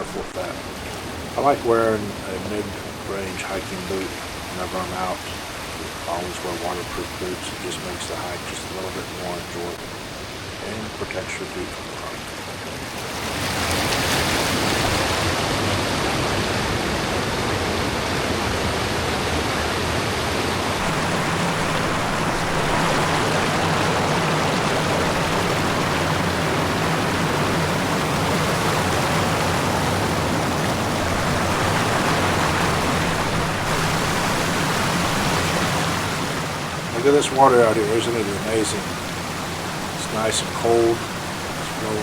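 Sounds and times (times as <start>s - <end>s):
creek rushing over stones: 0.0s - 42.0s.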